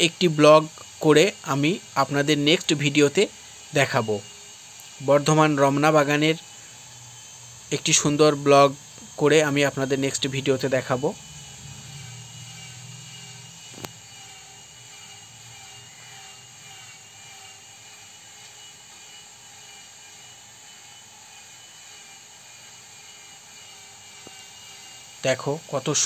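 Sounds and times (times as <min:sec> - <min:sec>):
faint whirring hum: 0:00.0 - 0:26.0.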